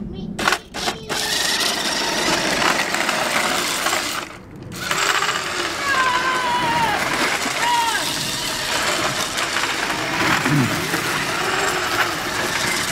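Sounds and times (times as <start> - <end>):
toy car motor whirring: 0.4 - 12.9.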